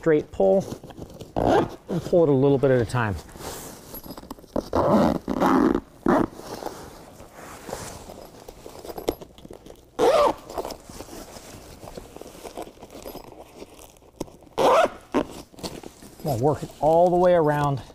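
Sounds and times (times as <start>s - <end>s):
handling of carpet and foam: 0.0s - 9.2s, 10.0s - 17.8s
zipper rasping shut: 0.6s - 2.4s, 3.2s - 16.4s.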